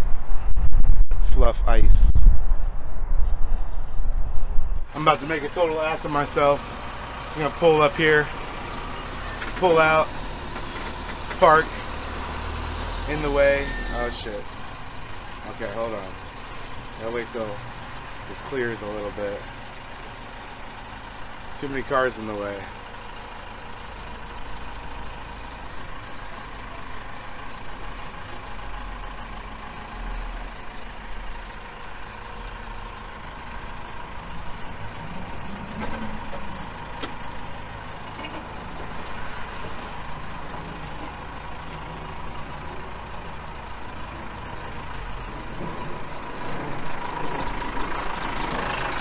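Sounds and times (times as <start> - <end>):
van engine rumbling: 0.0 - 49.0.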